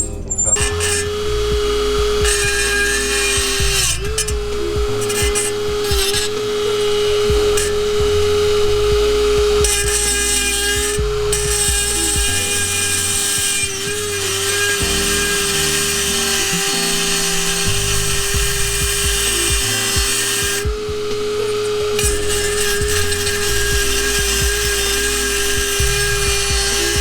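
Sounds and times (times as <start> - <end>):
rotary tool high whine: 0.0 - 27.0
sanding pad rasping on metal: 0.5 - 27.0.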